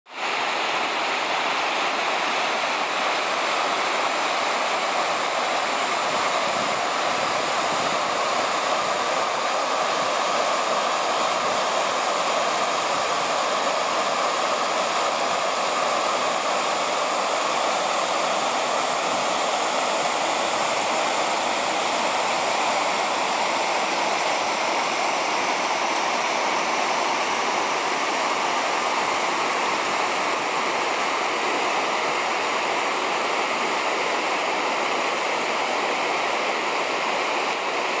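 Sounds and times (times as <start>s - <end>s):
water rushing over rocks: 0.1s - 38.0s.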